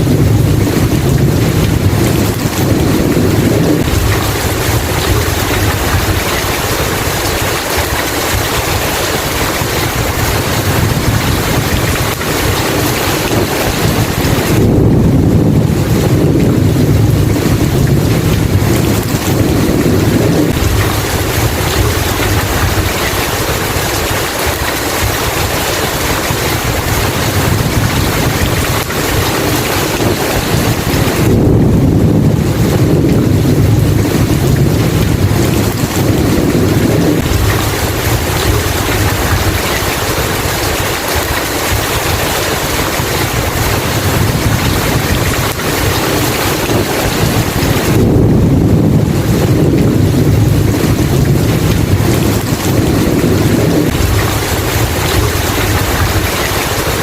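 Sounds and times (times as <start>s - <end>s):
heavy rain: 0.0s - 57.0s
rolling thunder: 0.0s - 57.0s.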